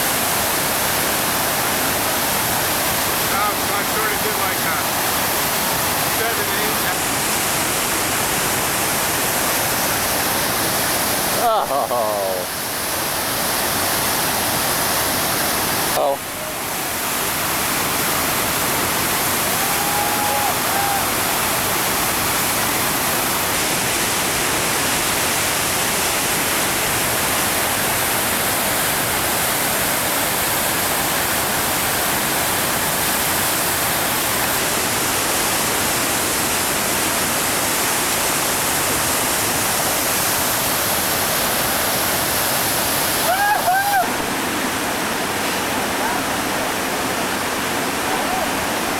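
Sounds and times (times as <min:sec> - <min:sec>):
whitewater rapid rushing: 0:00.0 - 0:48.9.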